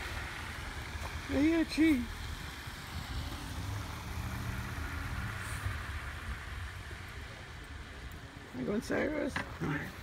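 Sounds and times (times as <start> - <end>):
vehicle engine drone: 0.0 - 8.7.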